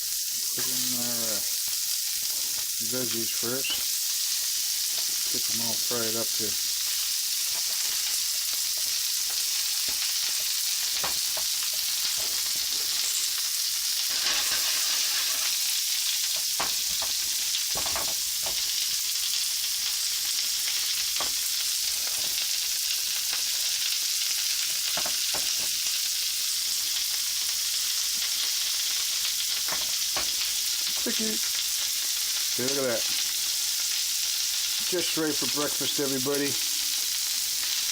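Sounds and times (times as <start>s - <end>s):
vegetables sizzling in a pan: 0.0s - 37.9s.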